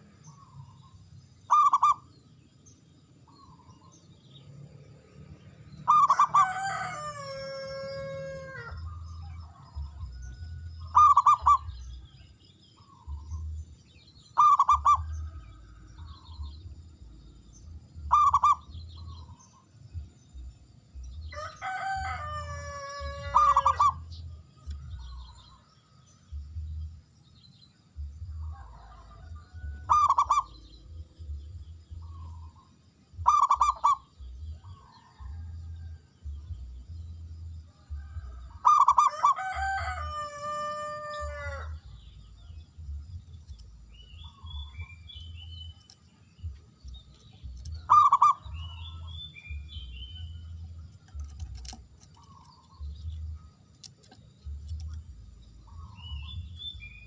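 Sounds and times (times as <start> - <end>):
dove singing: 0.0 - 57.0.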